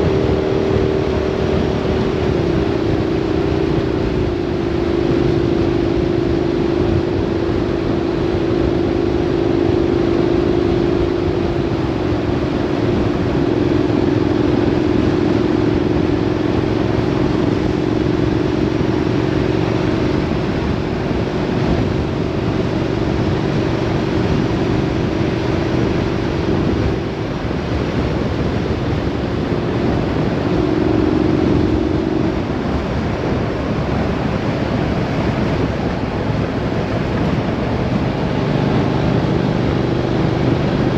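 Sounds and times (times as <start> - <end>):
vehicle engine hum: 0.0 - 40.9
wind and road noise: 0.0 - 40.9.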